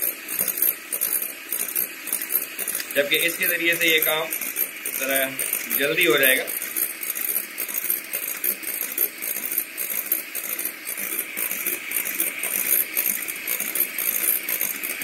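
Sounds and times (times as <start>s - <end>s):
beaters rattling against bowl: 0.0s - 15.0s
electric mixer whining: 0.0s - 15.0s.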